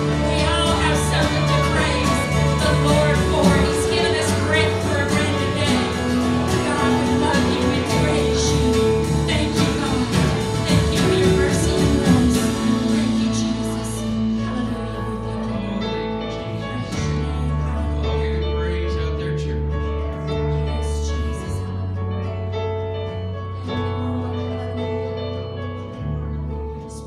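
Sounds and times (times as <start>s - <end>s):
live worship band playing: 0.0s - 27.0s.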